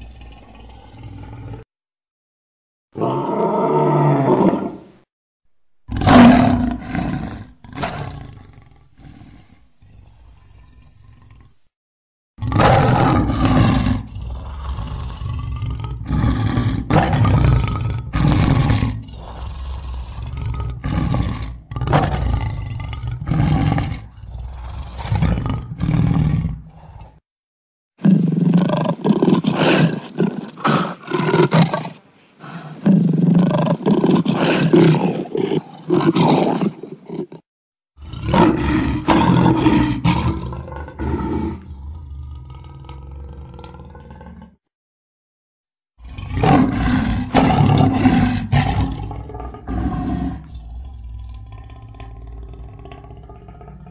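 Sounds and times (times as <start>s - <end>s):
lion roaring: 0.0s - 1.7s, 3.0s - 4.9s, 5.9s - 11.6s, 12.4s - 27.2s, 28.0s - 37.4s, 38.0s - 44.6s, 46.0s - 53.9s.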